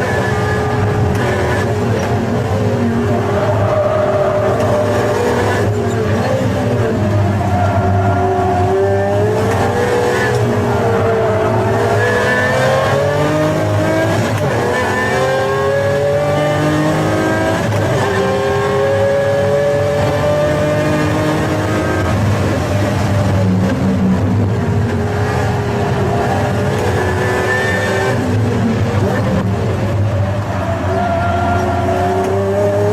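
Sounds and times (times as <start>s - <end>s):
sports car engine revving: 0.0s - 32.9s.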